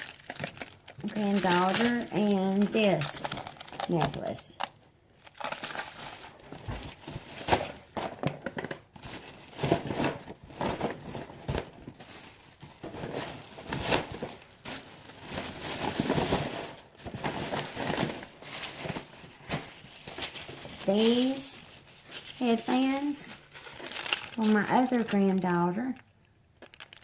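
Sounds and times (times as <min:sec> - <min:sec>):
packaging crinkling: 0:00.0 - 0:27.0.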